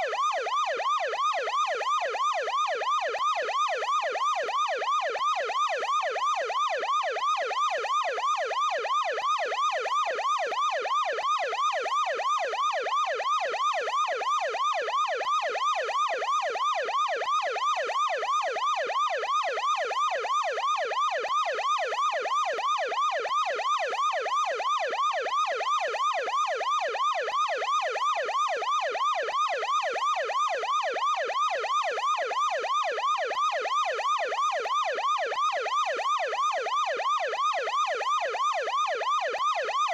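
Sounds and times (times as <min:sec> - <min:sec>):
ambulance siren yelping: 0:00.0 - 0:39.9.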